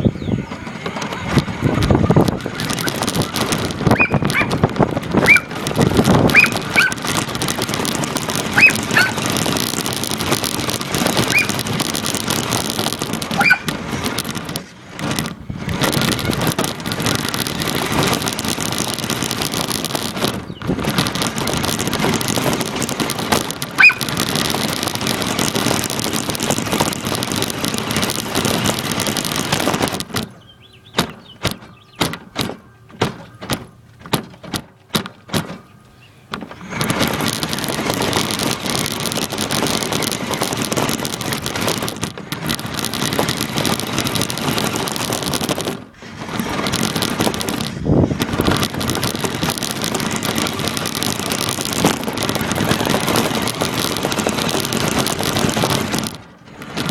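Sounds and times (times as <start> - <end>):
rc car motor and tyre rush: 0.0 - 33.7, 36.4 - 56.9
sharp clicks and knocks: 0.5 - 56.9.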